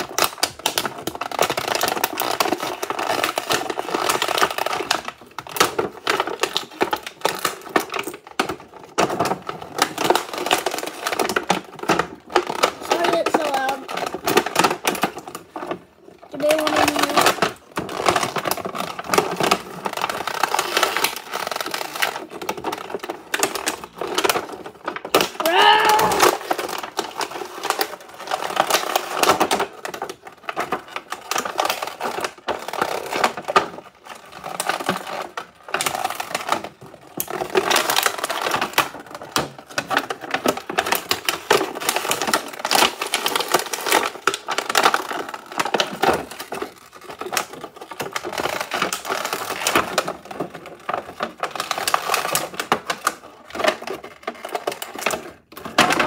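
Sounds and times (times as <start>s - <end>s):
plastic bag crinkling: 0.0s - 56.0s.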